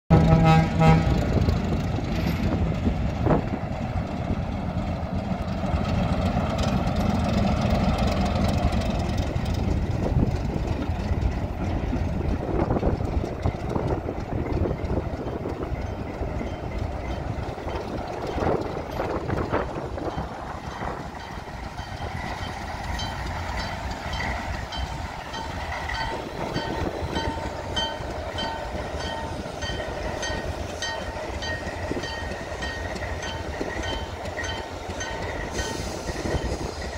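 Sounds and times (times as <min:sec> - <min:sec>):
diesel locomotives rumbling: 0:00.1 - 0:36.9.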